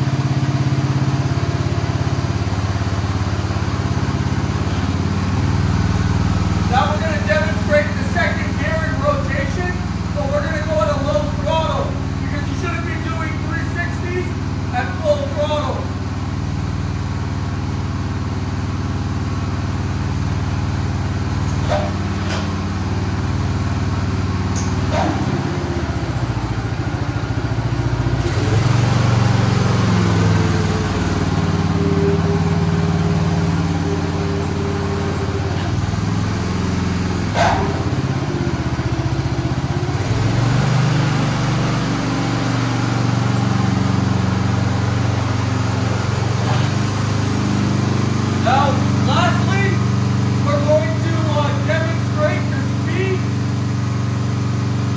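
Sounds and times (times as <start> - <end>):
small engine running under load: 0.0 - 54.9.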